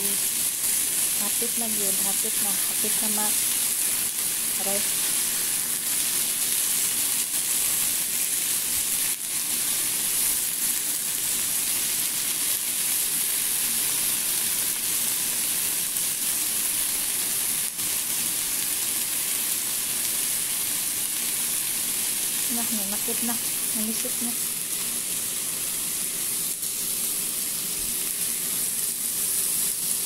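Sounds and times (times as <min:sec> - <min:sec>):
chicken sizzling in a pan: 0:00.0 - 0:30.0.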